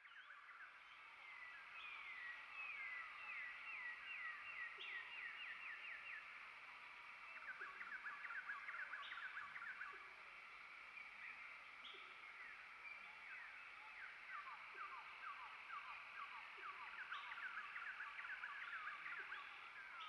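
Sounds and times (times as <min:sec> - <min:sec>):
steady high hum: 0:00.0 - 0:20.0.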